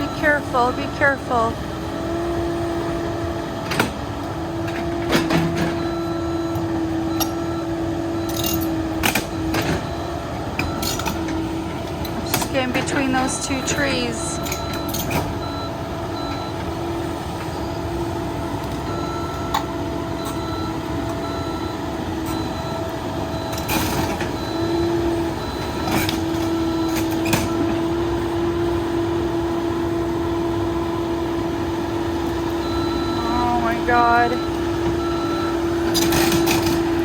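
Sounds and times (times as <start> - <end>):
excavator engine hum with whine: 0.0 - 37.0.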